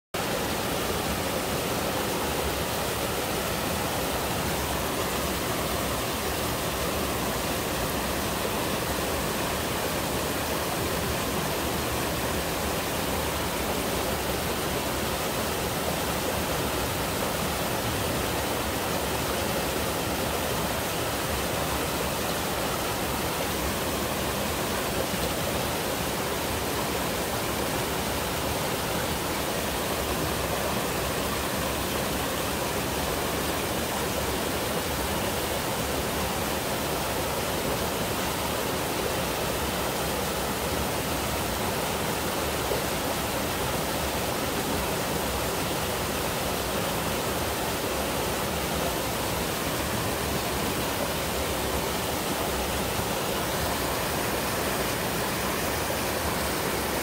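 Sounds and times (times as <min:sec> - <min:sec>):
water rushing over boulders: 0:00.1 - 0:57.0.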